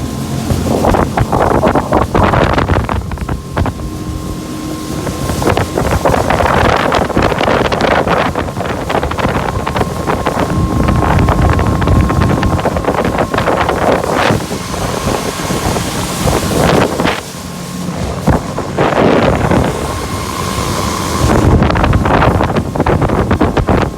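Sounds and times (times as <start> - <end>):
outboard motor running: 0.0 - 23.9
wind buffeting microphone: 0.0 - 23.9.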